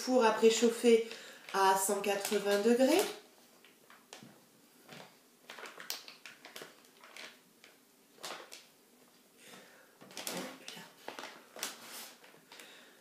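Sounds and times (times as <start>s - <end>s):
piping bag rustling: 0.5s - 13.0s.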